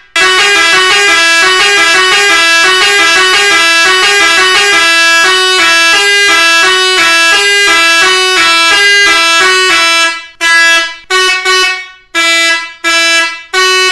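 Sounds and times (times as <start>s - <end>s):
electric air horn melody: 0.1s - 13.9s
short air horn blasts: 0.1s - 13.9s.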